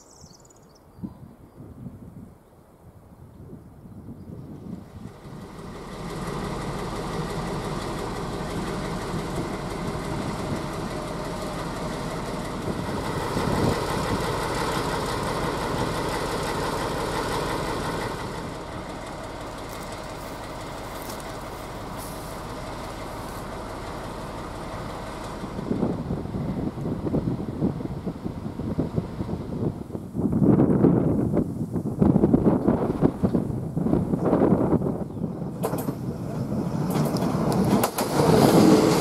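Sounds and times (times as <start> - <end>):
diesel locomotive idling: 4.5 - 39.0.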